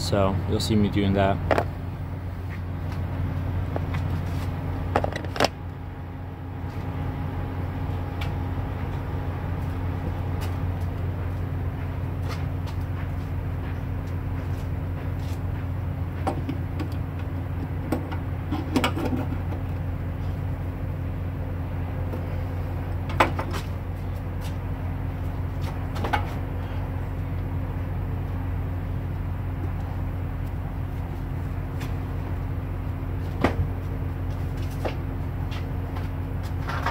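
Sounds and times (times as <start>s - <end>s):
diesel engine idling: 0.0s - 36.9s.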